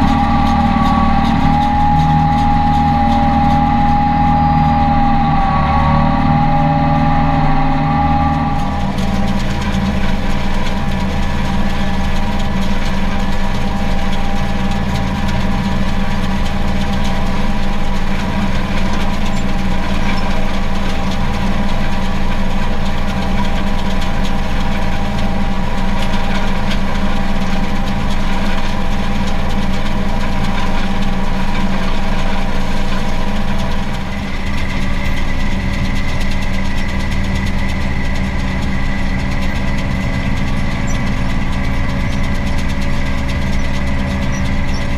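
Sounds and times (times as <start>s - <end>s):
higher steady whine: 0.0s - 44.9s
mechanical whine: 0.0s - 44.9s
tractor engine drone: 0.0s - 44.9s.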